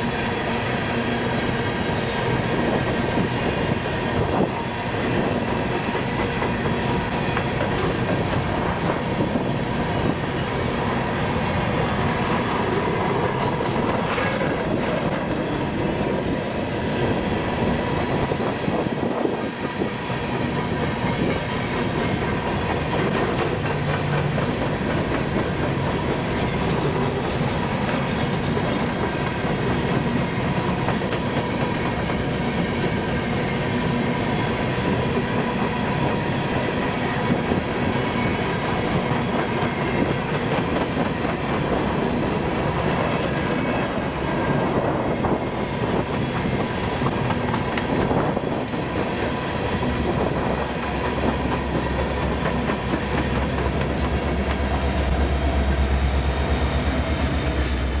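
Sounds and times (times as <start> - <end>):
diesel locomotive engine rumble: 0.0 - 58.0
locomotive high whine: 0.0 - 58.0
train cars rumbling past: 0.0 - 58.0.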